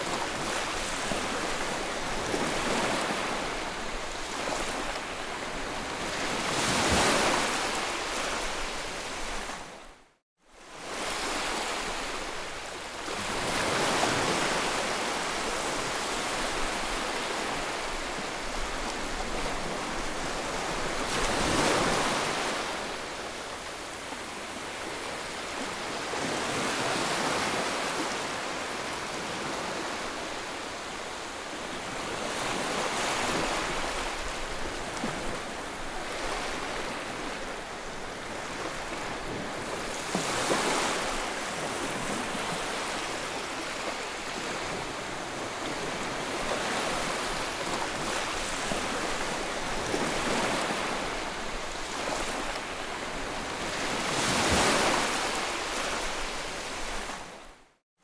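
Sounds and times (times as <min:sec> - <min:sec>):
ocean waves breaking on shore: 0:00.0 - 0:57.8.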